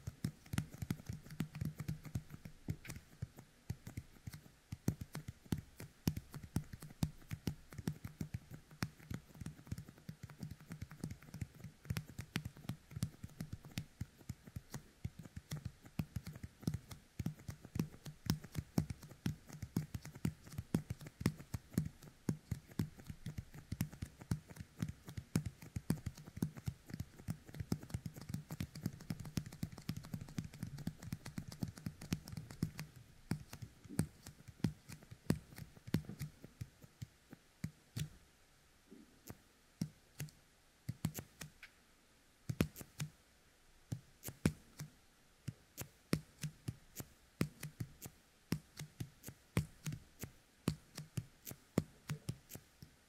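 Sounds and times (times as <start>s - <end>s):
sticky fingertips clicking and crackling: 0.0s - 38.2s, 39.2s - 41.8s, 42.5s - 43.2s, 43.9s - 52.9s.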